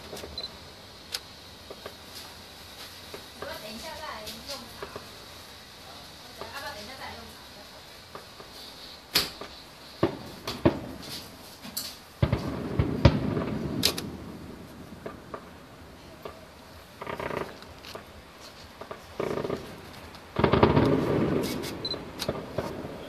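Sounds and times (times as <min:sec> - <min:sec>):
distant fireworks cracks and booms: 0:00.0 - 0:23.0.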